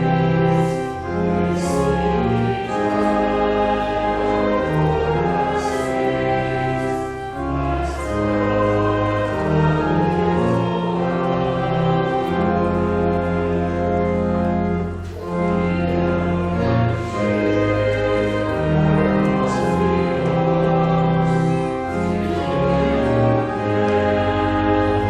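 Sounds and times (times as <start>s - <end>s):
church organ playing a hymn: 0.0s - 25.0s.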